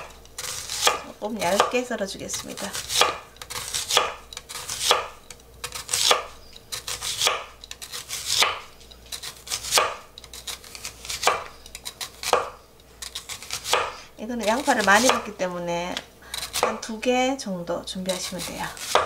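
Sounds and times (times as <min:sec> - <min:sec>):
knife slicing onion: 0:00.0 - 0:17.1, 0:17.9 - 0:19.0.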